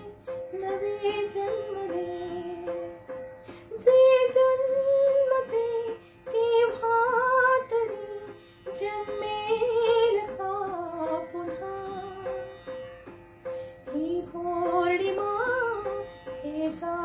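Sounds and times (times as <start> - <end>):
woman singing: 0.0 - 12.8, 13.8 - 17.0
instrumental backing track: 0.0 - 17.0.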